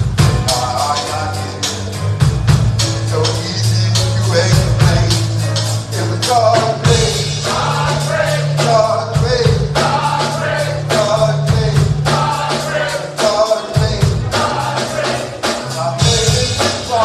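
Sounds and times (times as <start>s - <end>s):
live band playing gospel: 0.0s - 17.0s.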